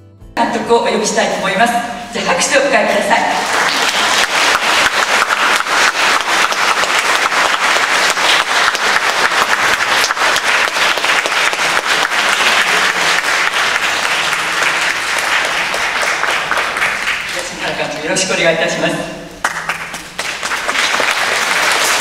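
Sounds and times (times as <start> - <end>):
audience applauding: 2.9 - 18.8, 19.4 - 22.0.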